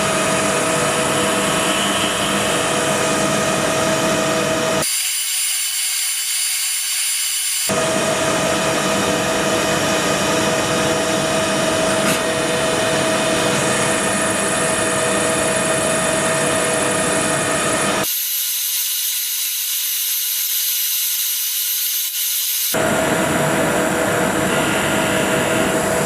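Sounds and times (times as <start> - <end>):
cnc machine cutting metal: 0.0 - 26.0.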